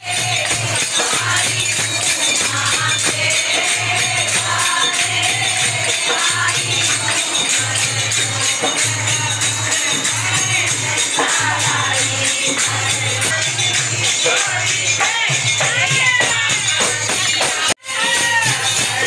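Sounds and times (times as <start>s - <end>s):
group devotional singing: 0.0s - 19.0s
tambourine jingling: 0.0s - 19.0s.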